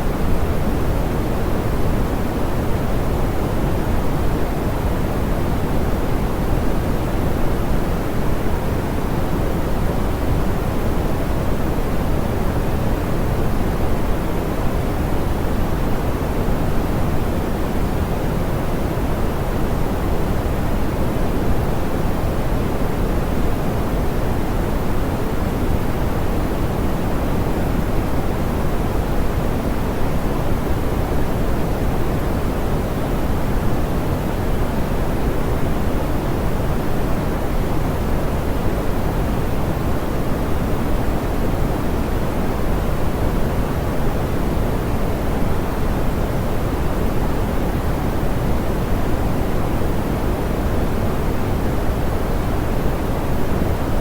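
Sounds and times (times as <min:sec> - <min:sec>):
soft pink noise hiss: 0:00.0 - 0:54.0.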